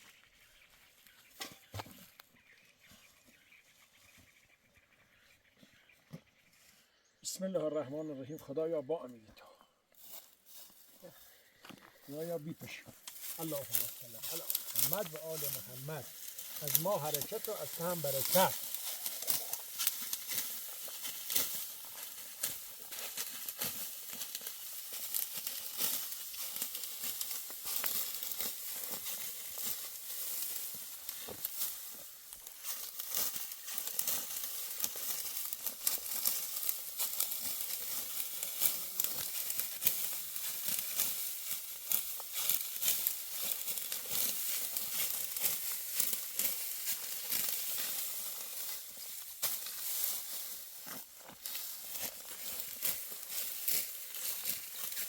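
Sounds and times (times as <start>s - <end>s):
sickles cutting dry wheat: 0.0s - 6.8s, 10.0s - 55.0s.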